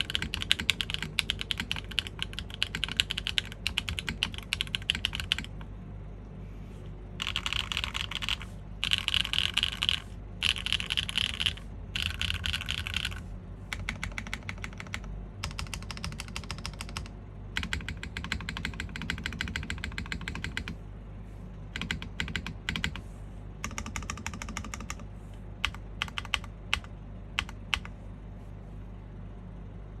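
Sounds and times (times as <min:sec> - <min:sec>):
mechanical keyboard typing: 0:00.0 - 0:05.7, 0:07.2 - 0:20.8, 0:21.7 - 0:28.0.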